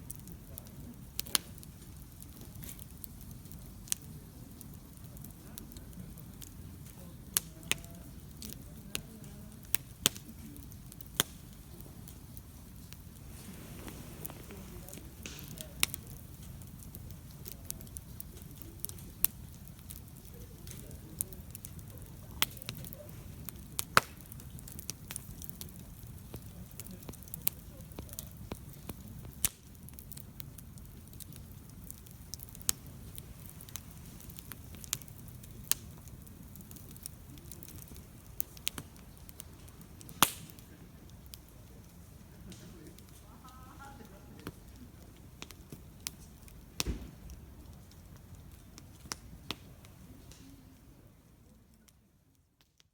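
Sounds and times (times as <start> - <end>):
burning wood popping: 0.0 - 52.9
campfire crackling: 0.0 - 52.9
low rumble of flames: 0.0 - 52.9.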